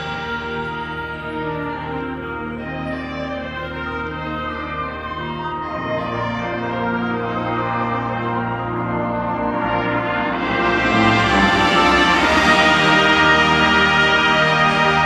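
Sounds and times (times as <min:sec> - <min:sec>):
brass band playing chords: 0:00.0 - 0:15.0.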